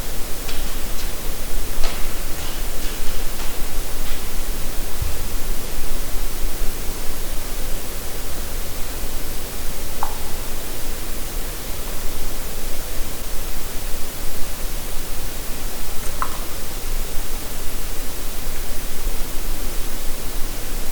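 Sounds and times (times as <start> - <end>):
loud steady hiss: 0.0 - 20.9.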